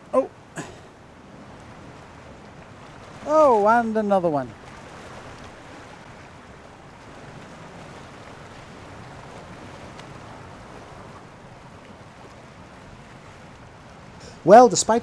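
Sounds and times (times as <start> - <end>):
sea waves washing: 0.0 - 15.0
wind: 0.0 - 15.0.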